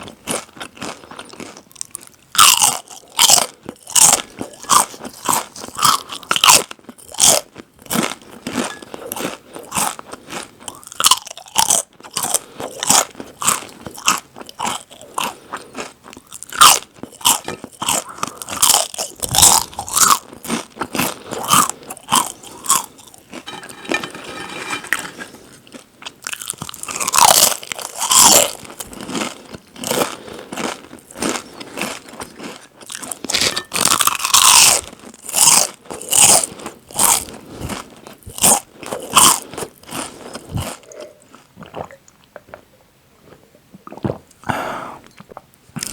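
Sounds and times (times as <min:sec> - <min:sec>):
chewing crunchy chips: 0:00.0 - 0:42.6, 0:45.1 - 0:45.9.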